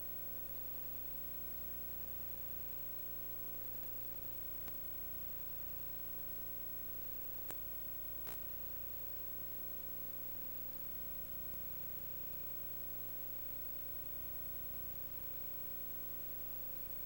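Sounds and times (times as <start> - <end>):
faint steady tone: 0.0 - 17.0
steady hiss: 0.0 - 17.0.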